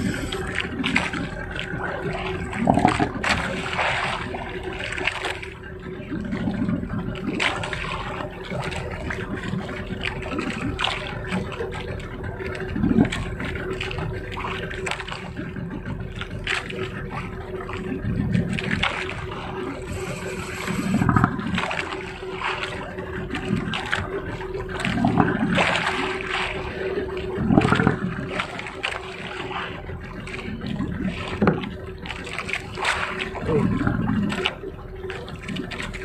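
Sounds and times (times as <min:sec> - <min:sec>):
steady hum: 0:00.0 - 0:36.0
water sloshing around boat: 0:00.0 - 0:36.0.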